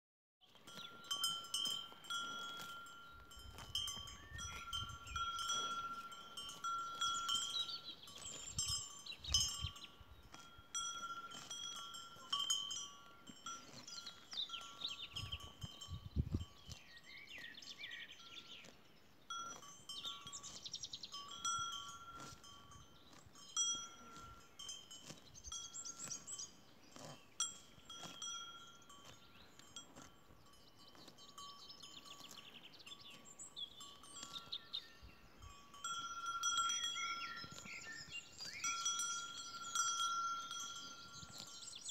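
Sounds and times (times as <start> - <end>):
small birds chirping: 0.4 - 41.9
cowbells ringing: 0.5 - 18.7, 19.3 - 41.9.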